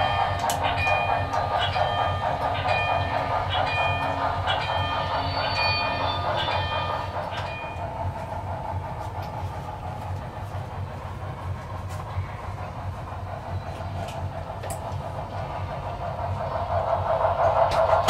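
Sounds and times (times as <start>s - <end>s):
model steam locomotive hissing: 0.0s - 18.0s.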